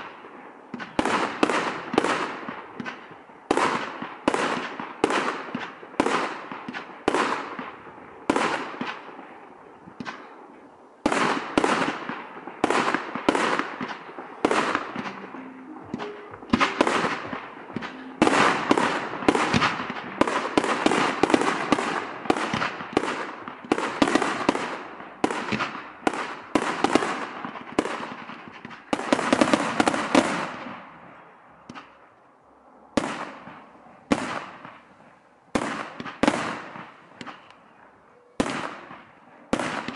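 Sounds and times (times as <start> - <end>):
fireworks bangs: 0.0 - 10.3, 11.0 - 30.9, 33.0 - 37.5.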